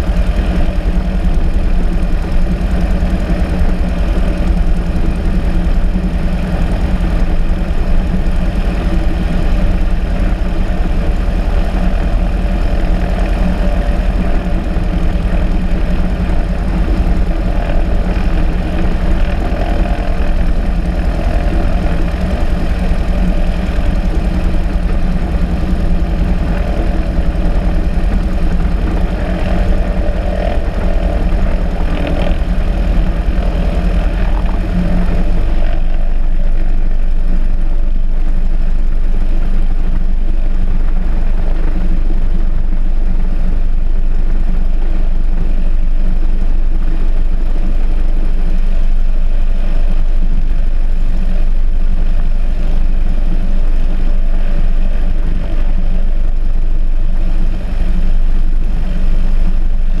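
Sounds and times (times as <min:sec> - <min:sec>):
propeller plane engine running: 0:00.0 - 1:00.0.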